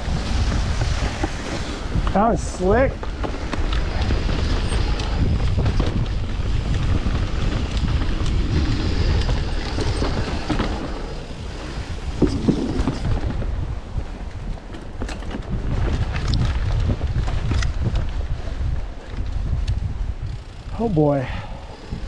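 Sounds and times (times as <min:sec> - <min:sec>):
bike knocks and rattles: 0:00.0 - 0:22.0
wind buffeting microphone: 0:00.0 - 0:22.0.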